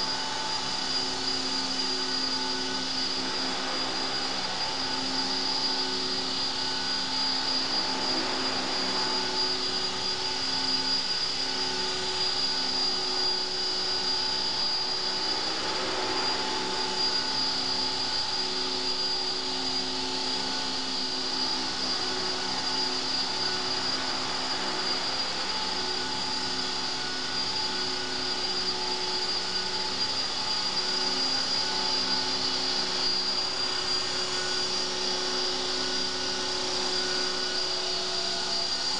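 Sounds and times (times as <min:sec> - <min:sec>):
model helicopter high-pitched whine: 0:00.0 - 0:38.9.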